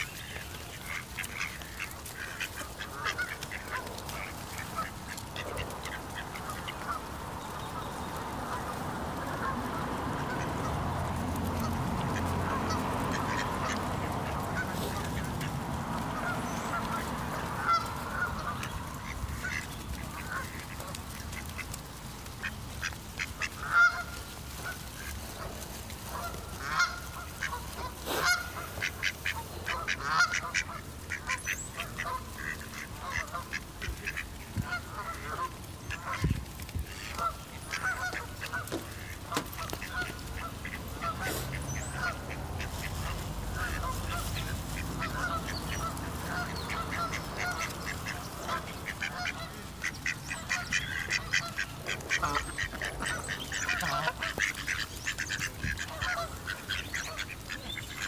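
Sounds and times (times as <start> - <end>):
geese or ducks honking: 0.0 - 58.0.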